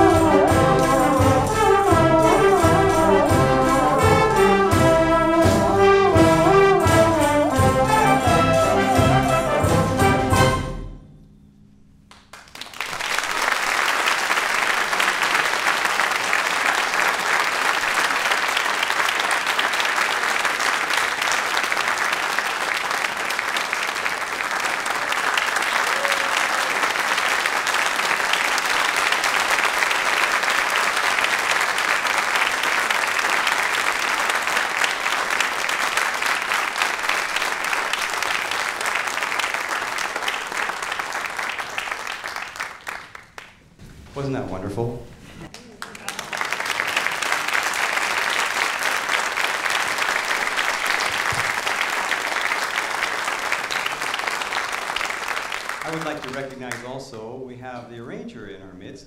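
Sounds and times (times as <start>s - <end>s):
audience applauding: 0.0s - 10.3s, 12.1s - 43.7s, 45.5s - 57.0s.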